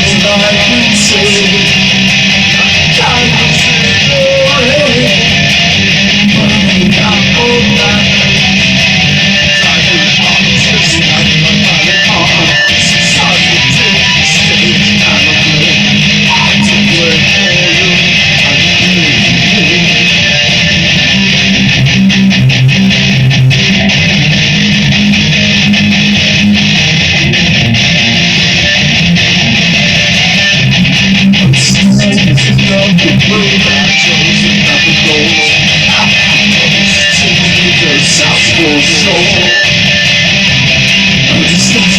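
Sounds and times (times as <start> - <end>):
distorted guitar strumming: 0.0 - 41.9.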